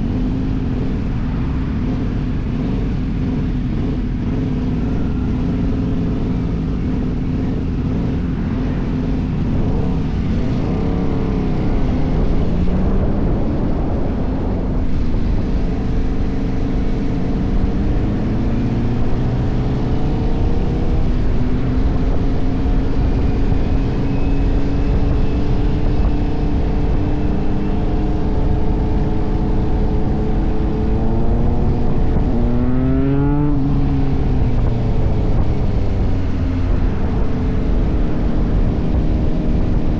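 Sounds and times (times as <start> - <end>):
motorcycle engine running: 0.0 - 39.9
wind rush: 6.4 - 39.9.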